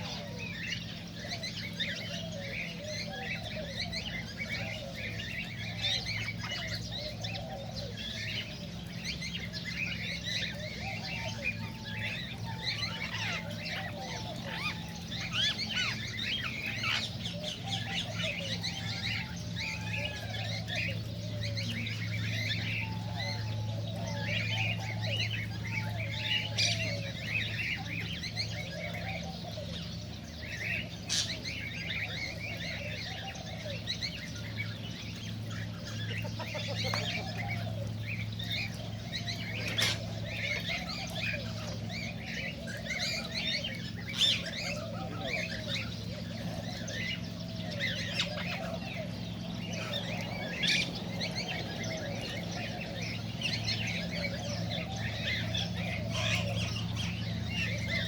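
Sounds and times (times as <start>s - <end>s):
cockatiels chirping and whistling: 0.0s - 23.6s, 30.4s - 58.0s
steady low hum: 0.0s - 58.0s.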